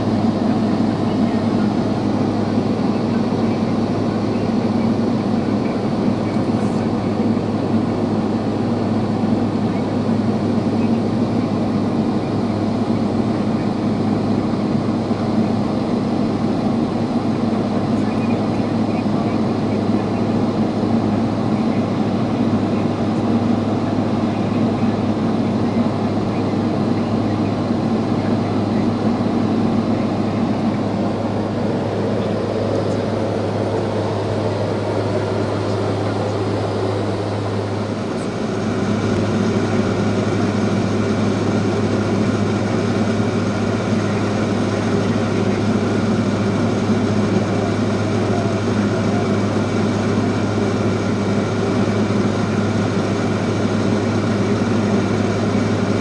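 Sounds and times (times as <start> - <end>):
aircraft cabin engine drone: 0.0 - 56.0
high engine whine: 0.0 - 56.0.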